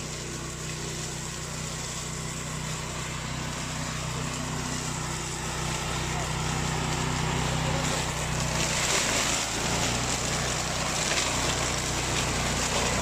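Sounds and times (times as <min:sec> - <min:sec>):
mower engine running under load: 0:00.0 - 0:13.0.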